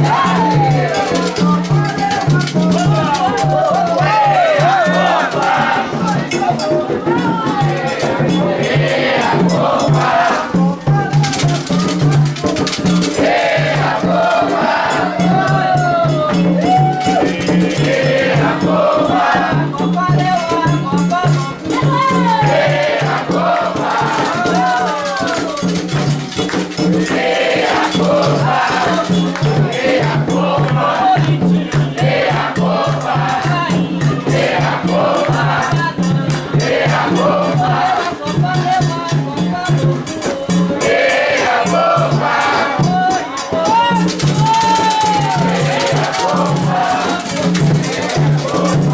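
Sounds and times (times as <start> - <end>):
drums beating rhythm: 0.0 - 48.9
rattle shaking: 0.0 - 48.9
voices singing: 0.0 - 48.9.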